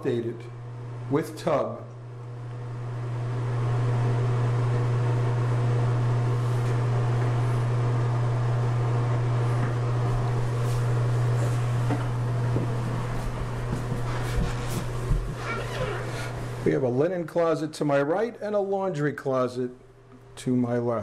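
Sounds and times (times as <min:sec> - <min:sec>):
ventilation fan humming: 0:00.0 - 0:21.0.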